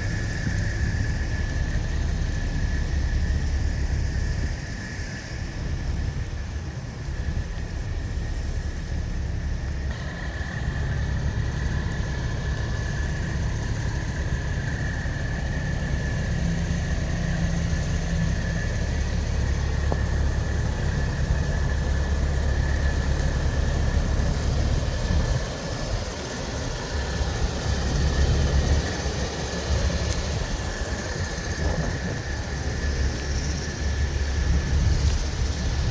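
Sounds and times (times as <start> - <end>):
diesel truck engines rumbling: 0.0 - 35.9.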